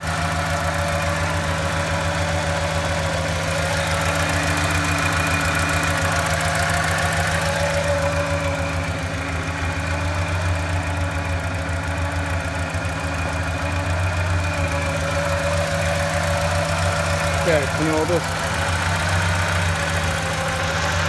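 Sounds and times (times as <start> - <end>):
car engine idling unevenly: 0.0 - 21.0.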